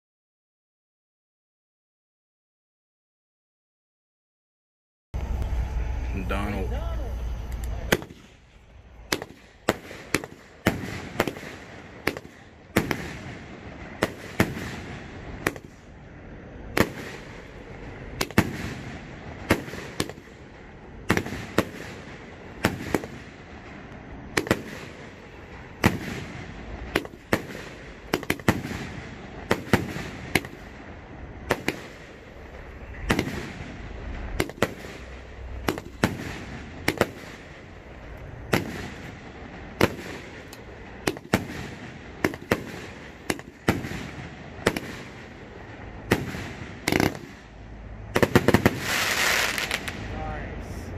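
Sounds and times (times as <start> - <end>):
fireworks banging: 5.2 - 50.9.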